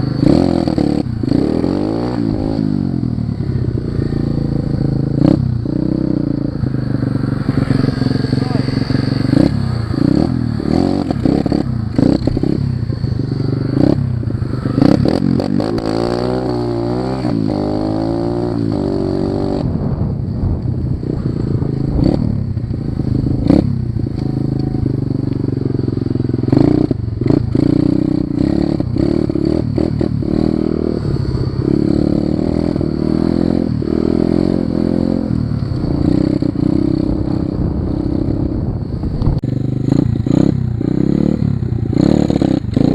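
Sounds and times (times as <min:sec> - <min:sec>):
small motorcycle engine revving: 0:00.0 - 0:19.8, 0:21.0 - 0:38.7, 0:39.4 - 0:42.9.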